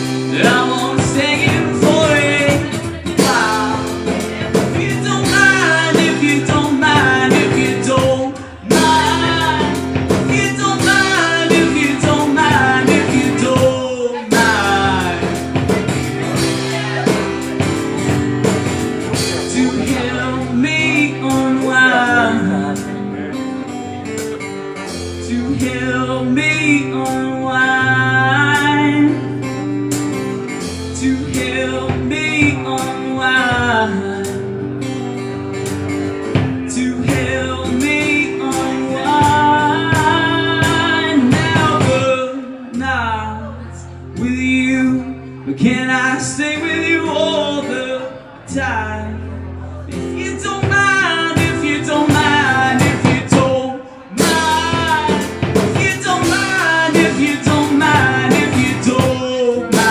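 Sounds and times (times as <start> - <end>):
person singing wordlessly: 0.0 - 23.6, 24.8 - 29.7, 30.6 - 34.6, 36.3 - 59.9
acoustic guitar strumming: 0.0 - 59.9.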